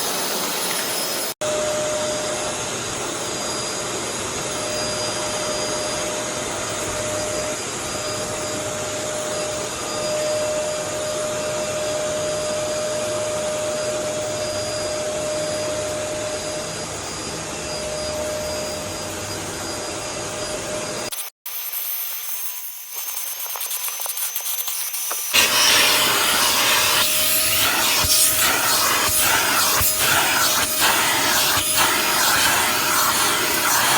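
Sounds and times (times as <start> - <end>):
vacuum cleaner running: 0.0 - 21.1, 23.0 - 33.9.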